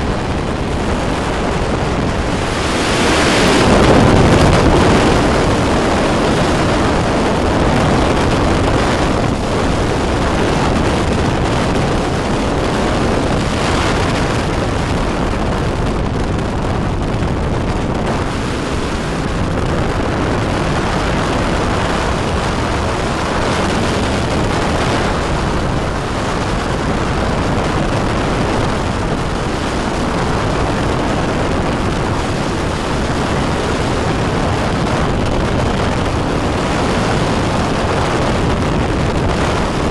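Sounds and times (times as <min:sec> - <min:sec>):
microlight engine in flight: 0:00.0 - 0:39.9
wind on microphone: 0:00.0 - 0:39.9.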